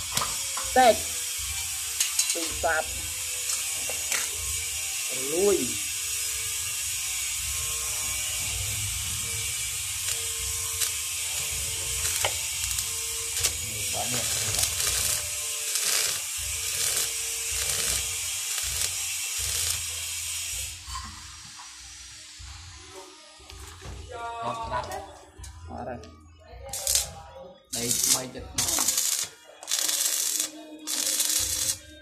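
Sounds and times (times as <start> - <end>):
welding arc crackling: 0.0 - 22.6, 26.7 - 27.1, 27.7 - 32.0.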